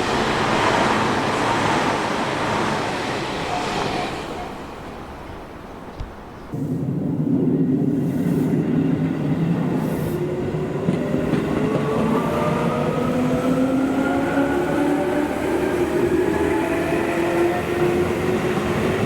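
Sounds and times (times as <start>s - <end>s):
wheels rumbling on rail: 0.0s - 19.0s.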